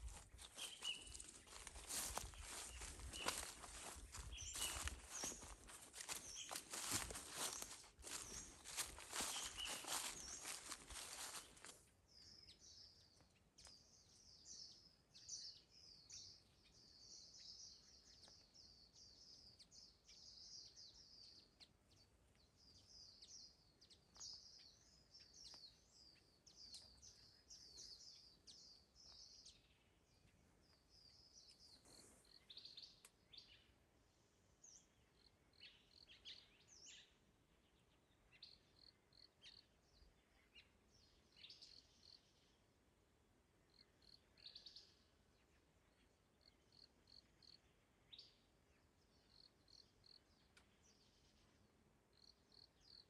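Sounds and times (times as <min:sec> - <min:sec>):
small birds chirping: 0:00.0 - 0:42.8, 0:43.6 - 0:53.0.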